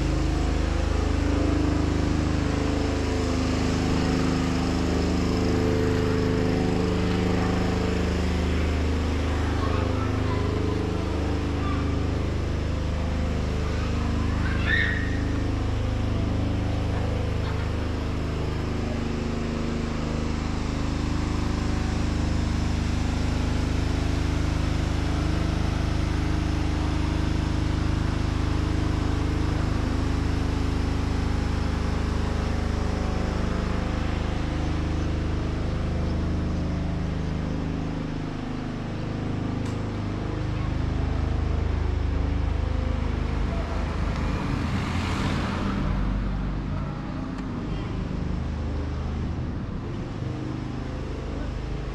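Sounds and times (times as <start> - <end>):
engine and traffic rumble: 0.0 - 51.9.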